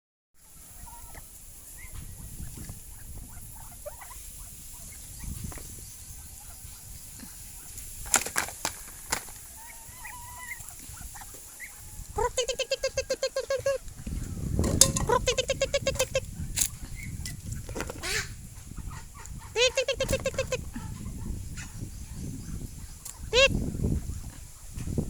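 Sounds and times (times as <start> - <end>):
poultry chirping and squeaking: 0.7 - 8.2, 9.3 - 24.8.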